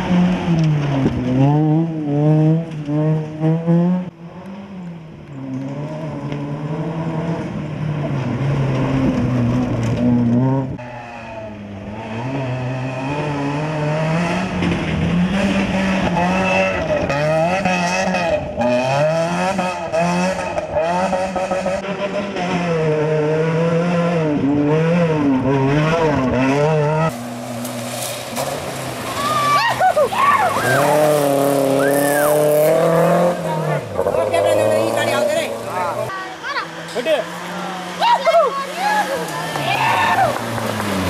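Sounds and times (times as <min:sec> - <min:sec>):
rally car engine revving: 0:00.0 - 0:41.0.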